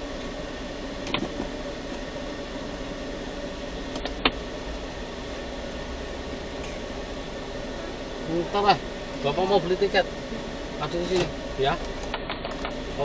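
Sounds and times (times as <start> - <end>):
air-conditioning fan: 0.0 - 13.0
car engine idling: 0.0 - 13.0.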